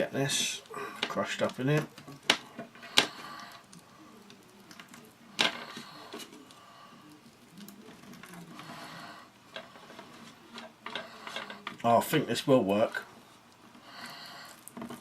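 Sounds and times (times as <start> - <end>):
stick scraping and grinding berries: 0.0 - 15.0.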